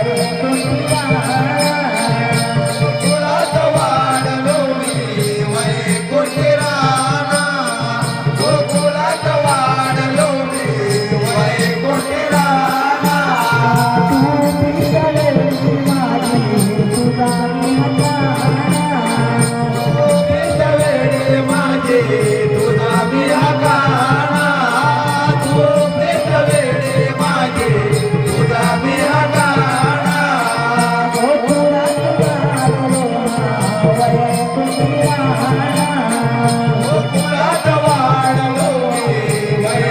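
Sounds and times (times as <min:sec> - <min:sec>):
percussion rhythm: 0:00.0 - 0:39.9
person singing folk song: 0:00.0 - 0:39.9.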